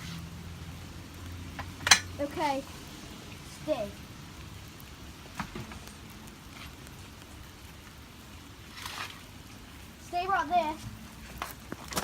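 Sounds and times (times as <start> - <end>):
light rain patter: 0.0 - 12.0.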